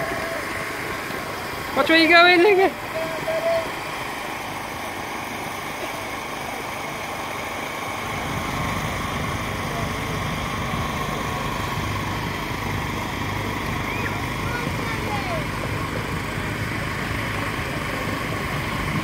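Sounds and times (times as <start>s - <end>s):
go-kart engines running: 0.0s - 19.0s.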